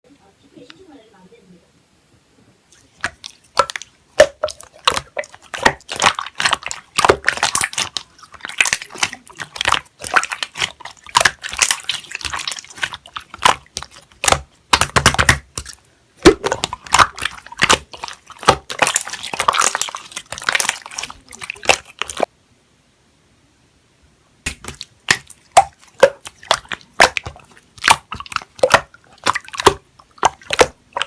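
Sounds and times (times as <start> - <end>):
slime squelching by hand: 2.7 - 22.3, 24.5 - 31.0.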